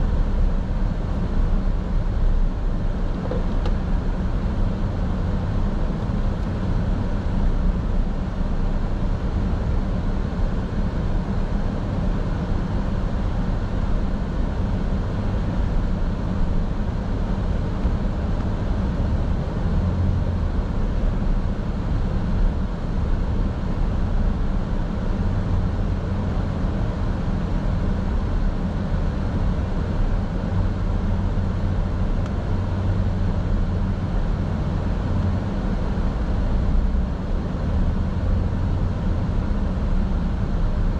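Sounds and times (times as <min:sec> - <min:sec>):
car road noise rumble: 0:00.0 - 0:40.9.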